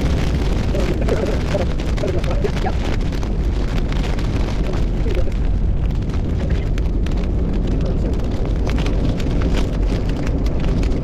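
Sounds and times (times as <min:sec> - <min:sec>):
rain tapping on a vehicle: 0:00.0 - 0:11.0
steady low rumble: 0:00.0 - 0:11.0.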